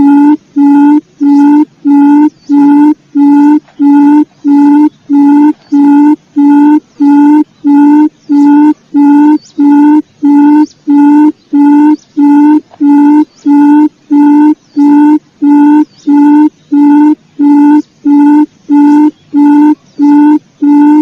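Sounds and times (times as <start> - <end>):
quail call low hooting: 0.0 - 21.0.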